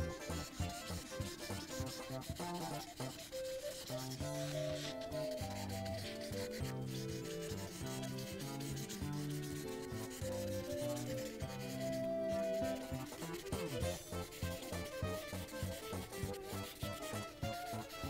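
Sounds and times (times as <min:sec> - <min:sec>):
background music with held notes: 0:00.0 - 0:18.0
marker scrubbing on paper: 0:00.0 - 0:18.0.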